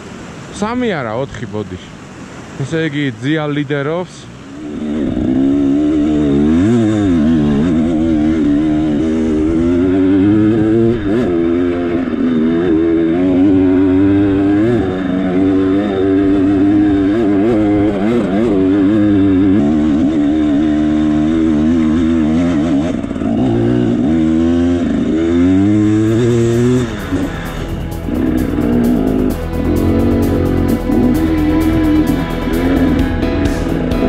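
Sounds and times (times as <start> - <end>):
motorcycle engine revving: 4.4 - 34.0.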